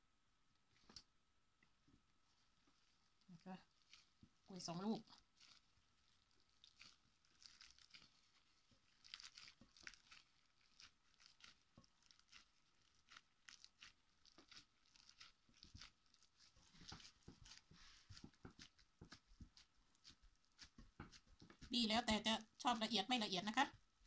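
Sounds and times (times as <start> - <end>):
squishing bananas in bowl: 0.7 - 24.0.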